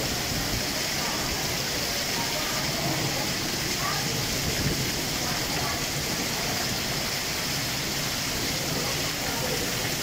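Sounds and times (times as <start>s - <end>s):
heavy rain on cars and street: 0.0s - 10.0s.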